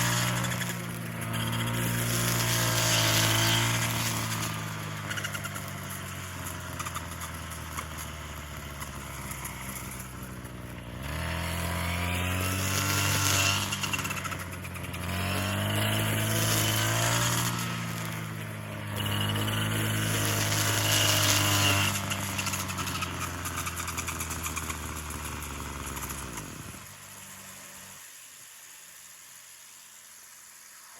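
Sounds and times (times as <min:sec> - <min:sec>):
small engine revving: 0:00.0 - 0:28.2.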